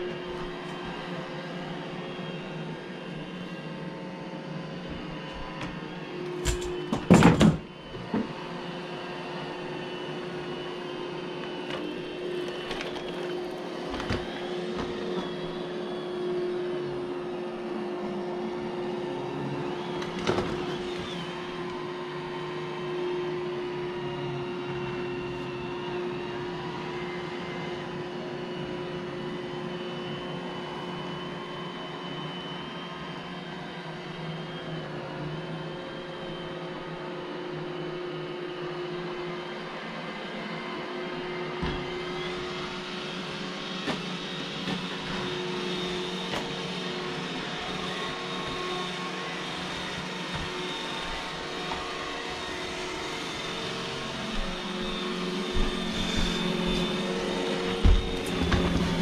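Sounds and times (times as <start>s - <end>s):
robot vacuum motor hum: 0.0s - 32.6s, 33.8s - 59.0s.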